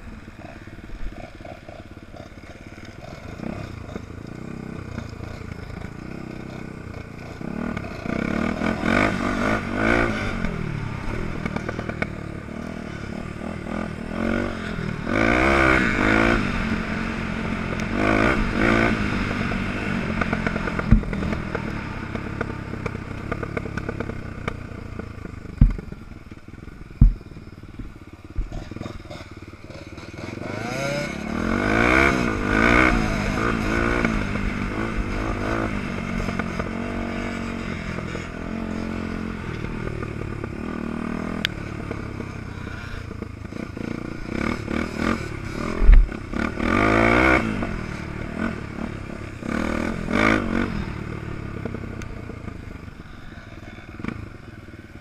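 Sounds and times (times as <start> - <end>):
dirt bike engine revving: 0.0 - 55.0
wind and ground noise: 0.0 - 55.0.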